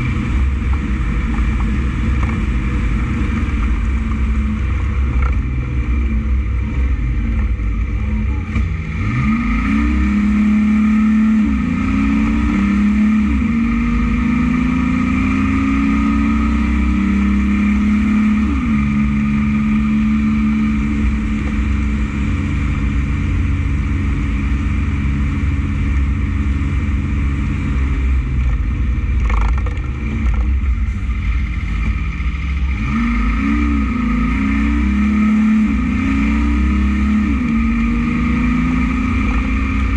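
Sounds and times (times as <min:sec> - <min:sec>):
low road rumble: 0:00.0 - 0:39.9
truck diesel engine shifting gears: 0:00.0 - 0:39.9.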